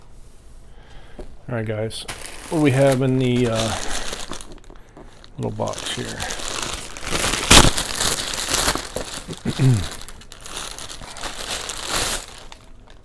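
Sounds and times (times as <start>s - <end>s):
packaging crinkling: 2.0s - 13.0s.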